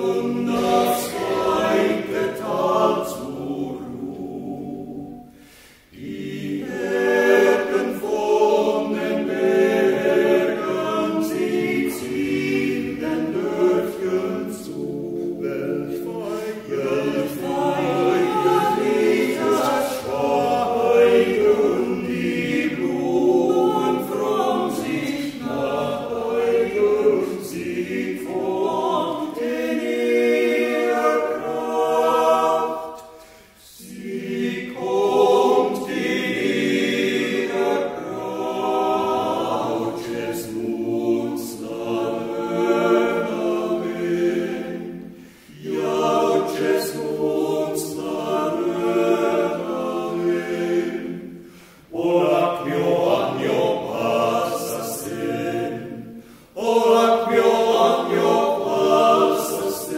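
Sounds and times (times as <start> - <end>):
men's choir singing a cappella: 0.0 - 59.9.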